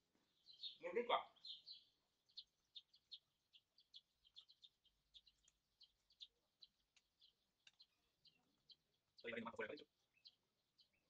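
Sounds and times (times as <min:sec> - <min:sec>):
small birds chirping faintly: 0:00.0 - 0:11.0.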